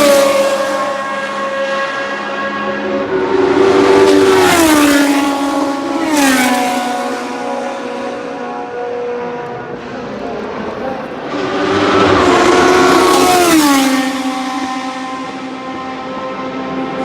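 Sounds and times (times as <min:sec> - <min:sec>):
racing car engines: 0:00.0 - 0:17.0
racing car passing by: 0:00.0 - 0:17.0.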